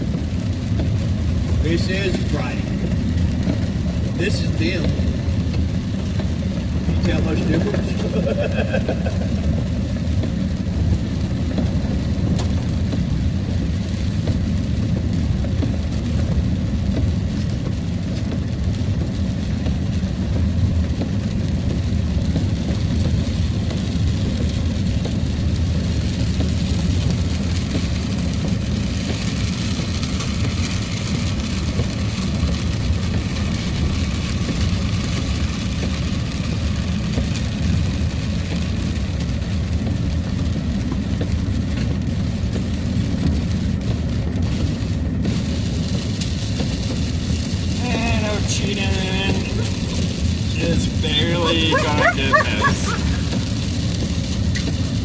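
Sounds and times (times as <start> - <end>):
truck engine and tyres rumble: 0.0 - 55.0
tyres hissing on wet road: 0.0 - 55.0.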